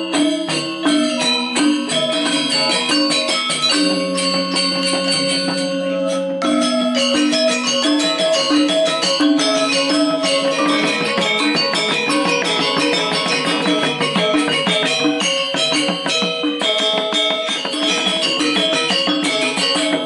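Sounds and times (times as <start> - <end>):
gamelan playing: 0.0 - 20.0.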